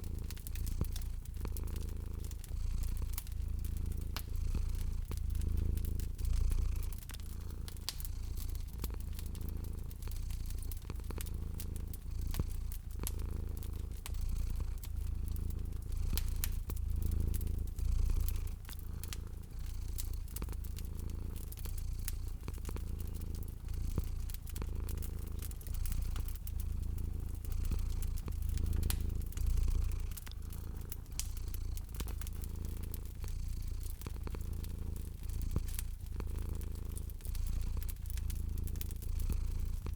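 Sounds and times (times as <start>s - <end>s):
cat purring: 0.0s - 39.9s
wood fire crackling: 0.0s - 39.9s.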